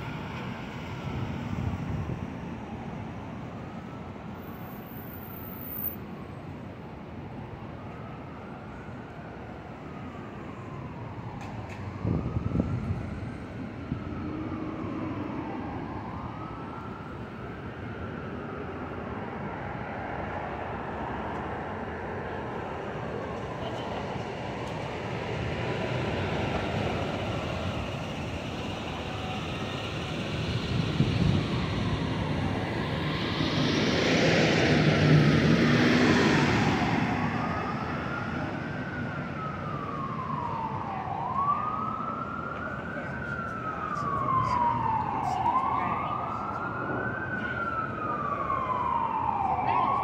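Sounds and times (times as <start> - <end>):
city traffic noise: 0.0 - 50.0
emergency siren wailing: 0.0 - 50.0.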